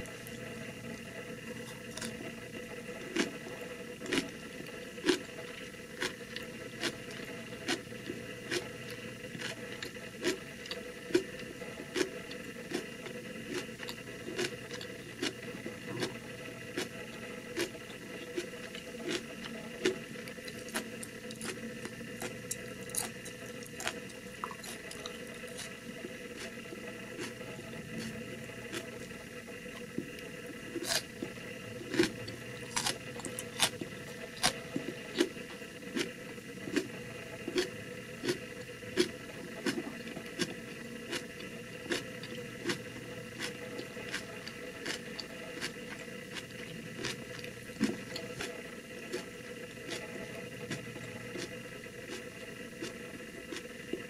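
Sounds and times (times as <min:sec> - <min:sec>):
chewing crunchy pickles: 0:00.0 - 0:54.0.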